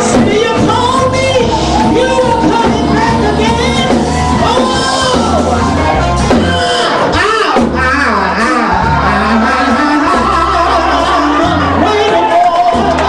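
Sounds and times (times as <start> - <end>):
gospel choir singing: 0.0 - 6.9, 8.9 - 13.0
instrumental accompaniment with bass: 0.0 - 13.0.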